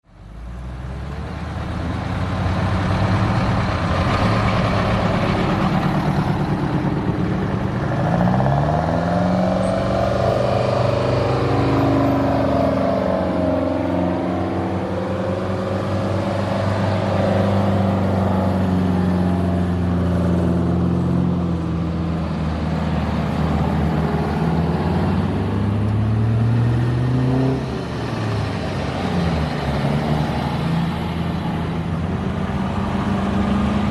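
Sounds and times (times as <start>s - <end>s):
diesel truck engines revving: 0.0s - 33.9s.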